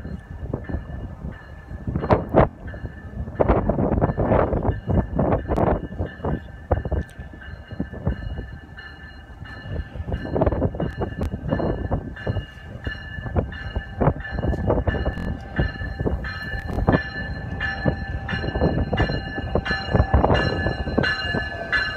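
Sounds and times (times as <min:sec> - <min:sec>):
train wheels rumbling on rail: 0:00.0 - 0:21.9
high-pitched tones: 0:04.1 - 0:21.9.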